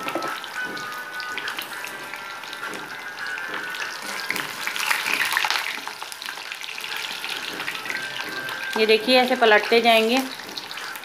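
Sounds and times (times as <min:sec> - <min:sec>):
eggplant sizzling in hot oil: 0:00.0 - 0:11.0
spattering oil popping: 0:00.0 - 0:11.0.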